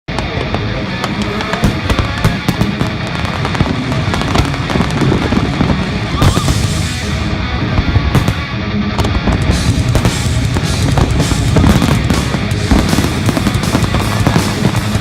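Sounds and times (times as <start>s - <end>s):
fireworks bangs and crackles: 0.1s - 15.0s
loud music: 0.1s - 15.0s.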